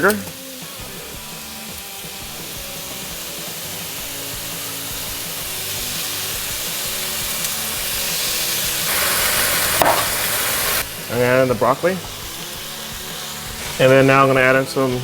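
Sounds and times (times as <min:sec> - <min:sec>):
meat sizzling in hot pan: 0:00.0 - 0:15.0.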